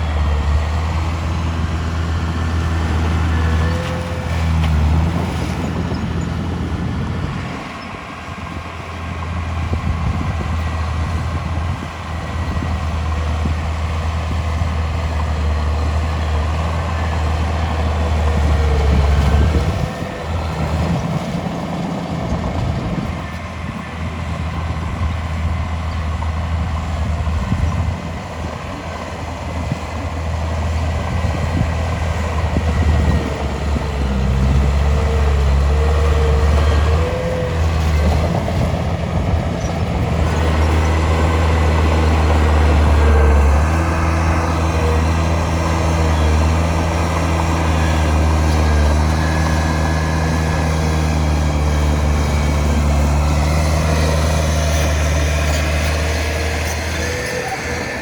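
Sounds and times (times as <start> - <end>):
heavy diesel engine droning: 0.0 - 58.0.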